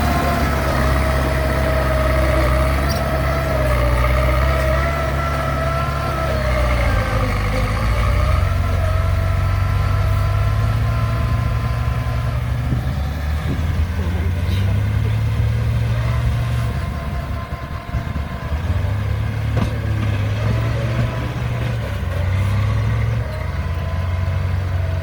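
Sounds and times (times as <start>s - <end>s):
diesel excavator engine running: 0.0s - 25.0s.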